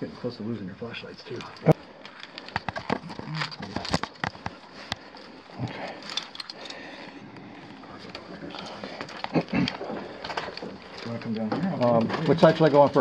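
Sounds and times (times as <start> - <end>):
climbing gear clicks and knocks: 1.3 - 7.1, 8.0 - 13.0.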